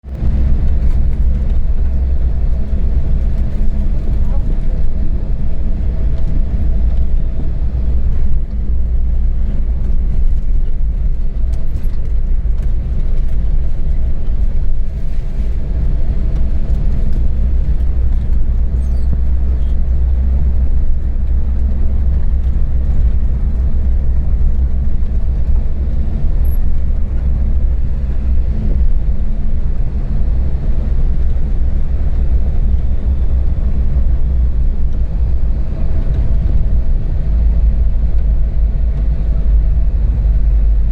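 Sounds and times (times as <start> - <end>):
engine and road rumble: 0.0 - 40.9.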